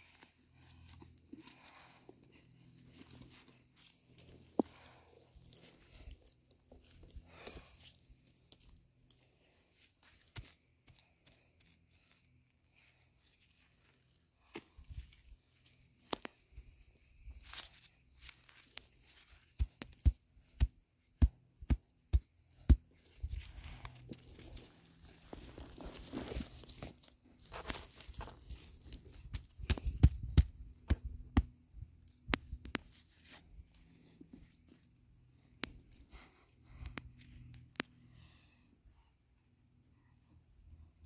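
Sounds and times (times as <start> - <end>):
hands scraping dry dirt: 0.0 - 38.6.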